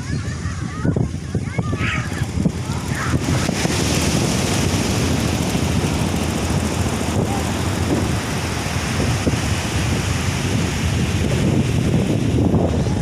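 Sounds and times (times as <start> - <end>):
ocean surf crashing: 0.0 - 13.0
wind buffeting microphone: 0.0 - 13.0.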